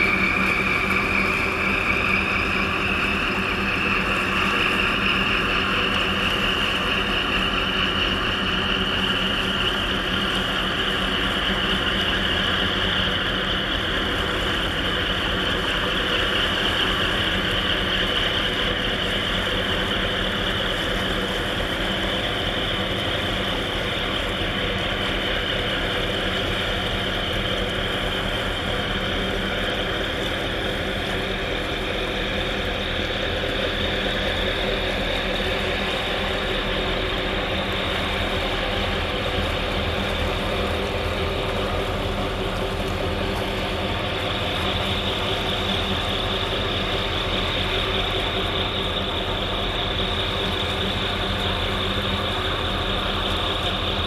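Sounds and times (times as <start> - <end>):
high engine whine: 0.0 - 54.0
ship diesel engine drone: 0.0 - 54.0.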